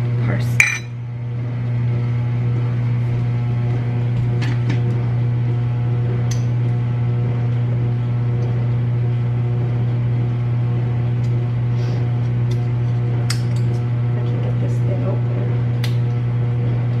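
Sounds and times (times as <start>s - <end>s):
appliance electrical hum: 0.0s - 17.0s.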